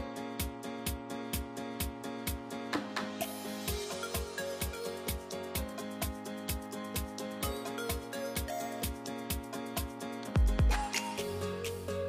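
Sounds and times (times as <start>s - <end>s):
music with a steady beat: 0.0s - 12.0s.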